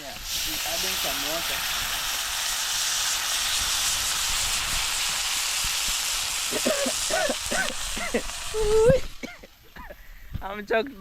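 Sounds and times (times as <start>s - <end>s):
fish frying in hot oil: 0.0s - 9.6s.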